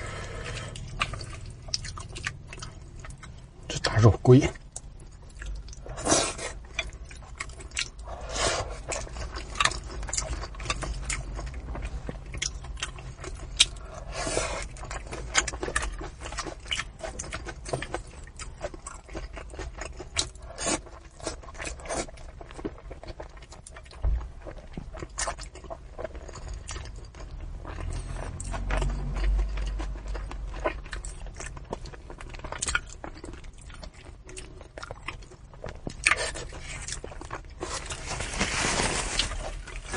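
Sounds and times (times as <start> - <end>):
chewing and biting: 0.0 - 39.9.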